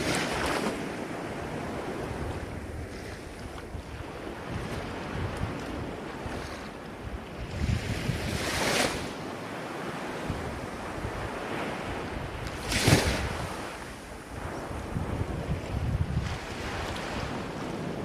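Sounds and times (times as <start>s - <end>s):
ocean waves washing ashore: 0.0s - 18.0s
waves breaking: 0.0s - 18.0s.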